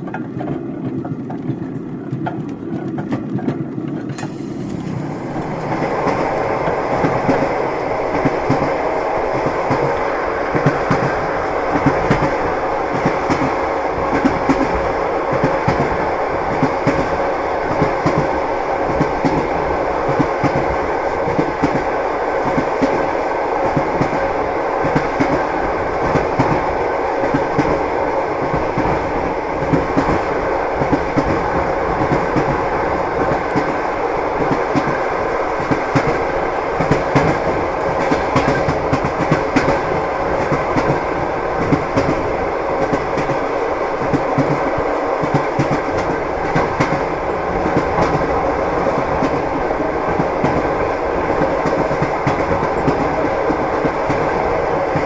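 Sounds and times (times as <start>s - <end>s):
train rumble: 0.0s - 55.0s
train wheels clacking over rail joints: 0.0s - 55.0s.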